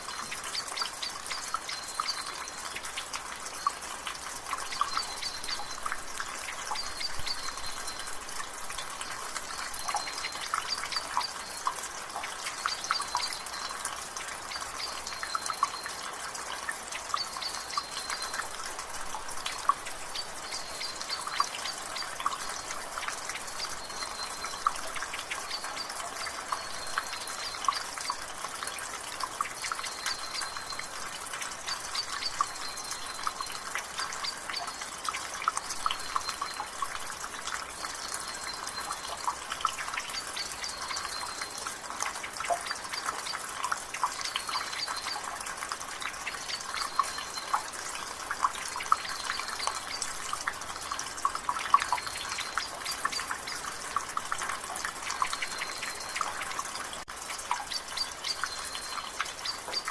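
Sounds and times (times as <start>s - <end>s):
rain water dripping from gutter: 0.0s - 59.9s.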